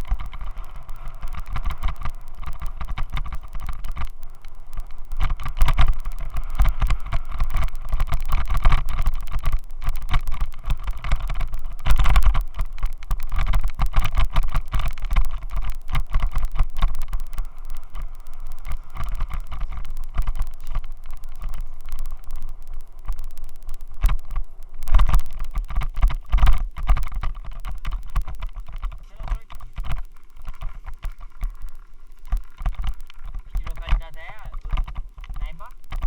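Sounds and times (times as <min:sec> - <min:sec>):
rattling buzz of vibrating mount: 0:00.0 - 0:36.0.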